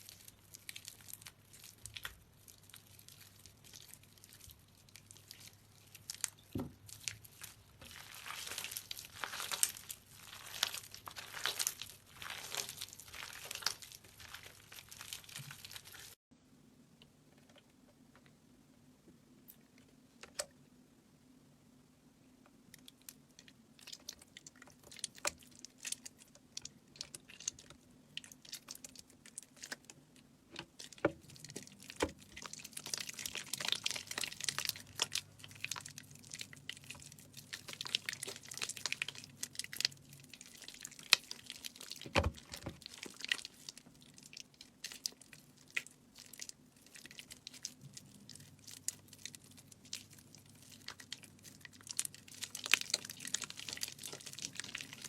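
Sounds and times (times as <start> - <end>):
wet soap crunching: 0.0 - 16.2, 22.8 - 55.0.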